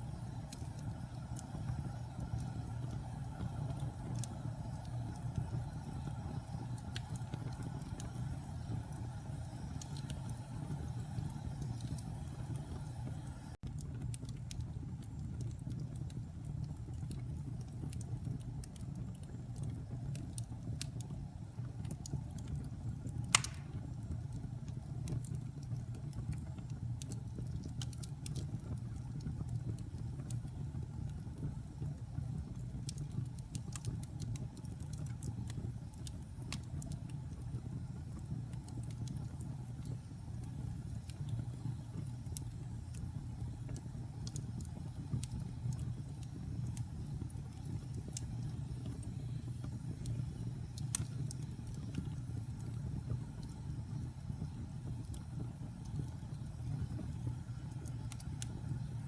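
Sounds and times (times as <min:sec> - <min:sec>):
fire crackling: 0:00.0 - 0:59.0
fire popping: 0:00.0 - 0:59.0
fire rumbling: 0:00.0 - 0:59.0.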